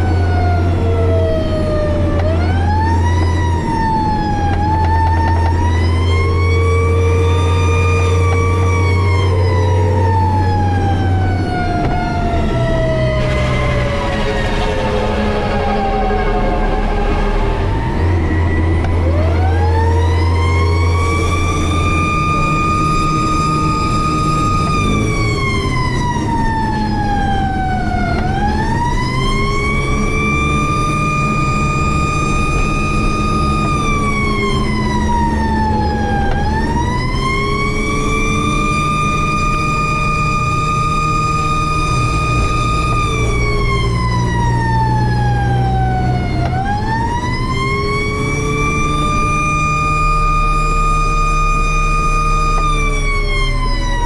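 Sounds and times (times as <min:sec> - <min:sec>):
fire truck siren wailing: 0:00.0 - 0:54.0
truck engine rumbling: 0:00.0 - 0:54.0.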